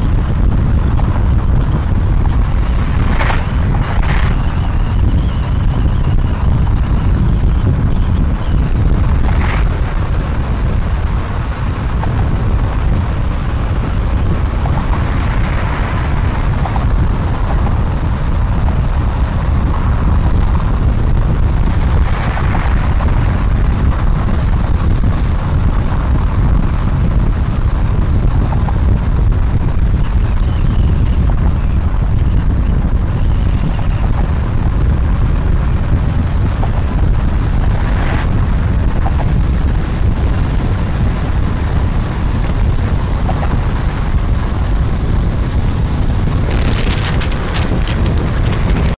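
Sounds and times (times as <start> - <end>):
car road and wind rumble: 0.0 - 48.9
wind buffeting microphone: 0.0 - 48.9.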